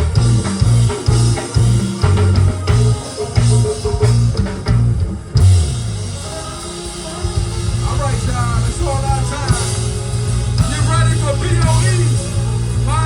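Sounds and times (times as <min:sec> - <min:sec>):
bass guitar: 0:00.0 - 0:13.0
drum kit: 0:00.0 - 0:13.0
gospel band playing: 0:00.0 - 0:13.0.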